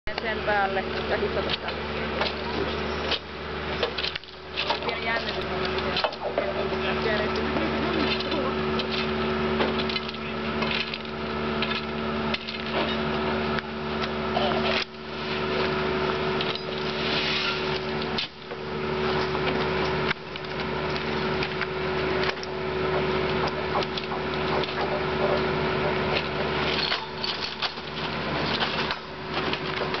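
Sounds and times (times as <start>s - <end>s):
machinery engine droning: 0.1s - 30.0s.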